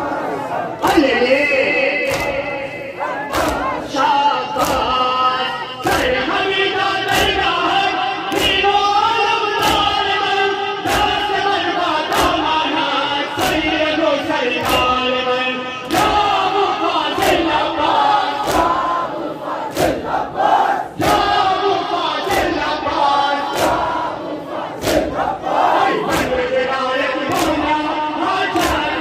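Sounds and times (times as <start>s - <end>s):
crowd of men chanting: 0.0s - 29.0s.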